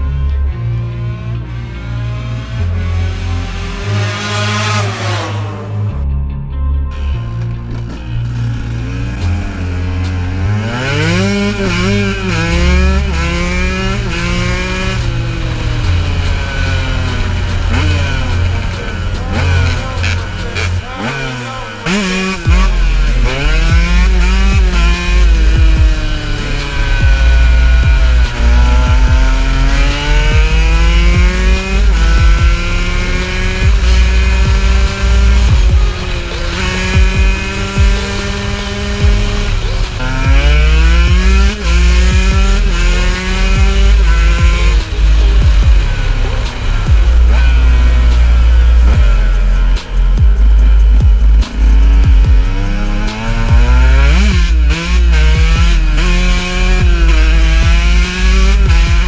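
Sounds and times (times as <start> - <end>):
music: 0.0 - 59.0
two-stroke engine revving: 2.7 - 5.8, 7.6 - 59.0.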